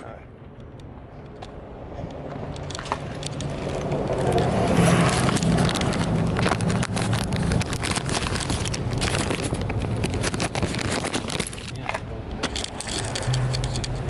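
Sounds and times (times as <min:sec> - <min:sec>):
small clicks and knocks: 0:00.5 - 0:14.0.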